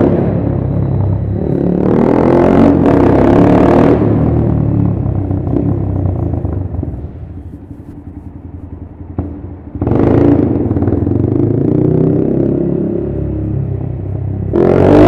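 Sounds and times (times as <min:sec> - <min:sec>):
motorbike exhaust revving: 0:00.0 - 0:07.5, 0:09.1 - 0:15.0.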